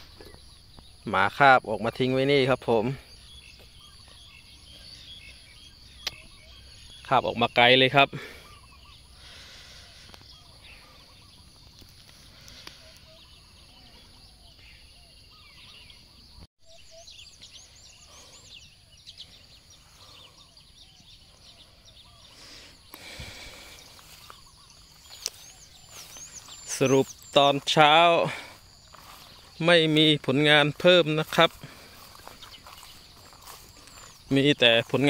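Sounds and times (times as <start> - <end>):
birds chirping and whistling: 0.0 - 35.0.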